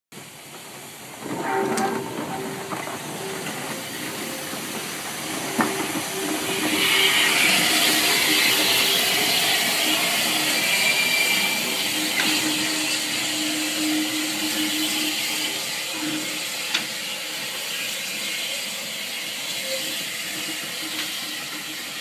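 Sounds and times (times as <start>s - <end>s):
steam locomotive moving slowly: 0.1s - 22.0s
steam hissing: 0.2s - 22.0s.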